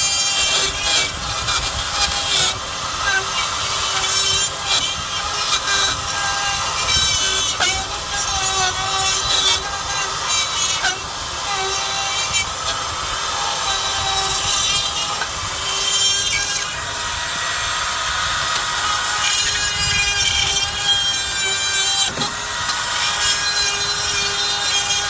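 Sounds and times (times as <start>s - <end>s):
power tool whining under load: 0.0s - 25.0s.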